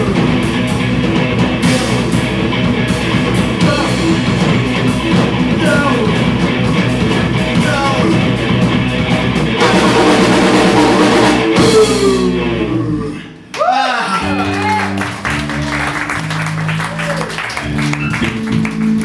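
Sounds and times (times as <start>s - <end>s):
rock band playing live: 0.0s - 13.2s, 14.2s - 19.0s.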